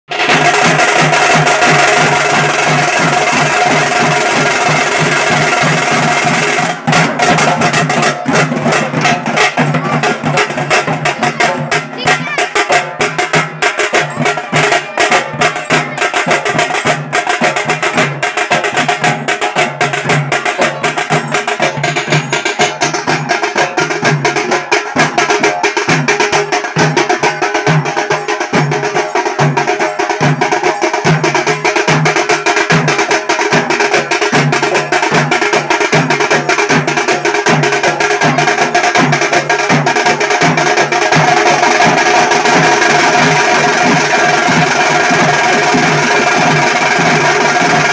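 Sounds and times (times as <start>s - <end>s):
barrel drums beaten with sticks: 0.1s - 47.9s.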